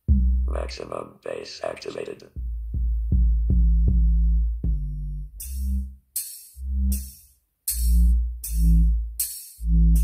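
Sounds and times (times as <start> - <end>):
bass-heavy electronic music: 0.0 - 0.9, 2.4 - 10.0.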